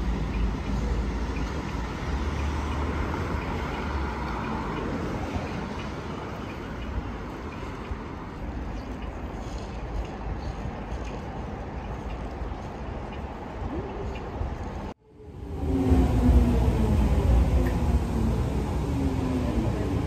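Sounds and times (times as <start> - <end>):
cars and truck passing: 0.0 - 20.0.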